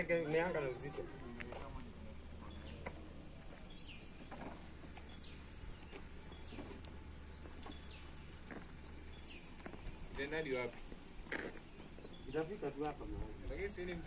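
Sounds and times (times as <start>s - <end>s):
faint low outdoor hum: 0.0s - 14.0s.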